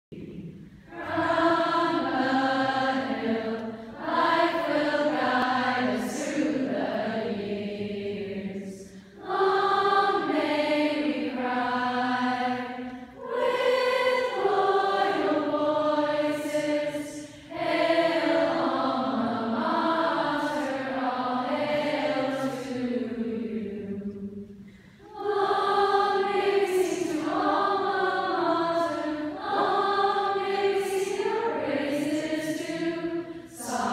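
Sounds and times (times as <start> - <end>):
group of women singing: 0.2 - 24.4, 25.0 - 33.9.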